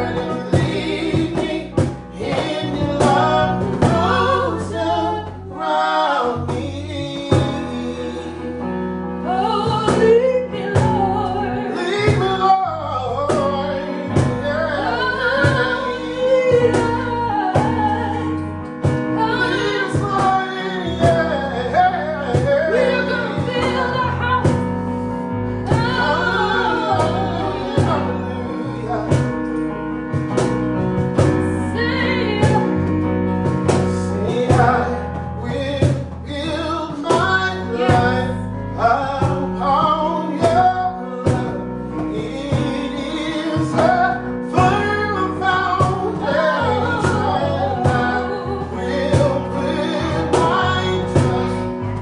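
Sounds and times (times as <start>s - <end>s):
gospel song singing voice: 0.0s - 52.0s
instrumental accompaniment with beat: 0.0s - 52.0s.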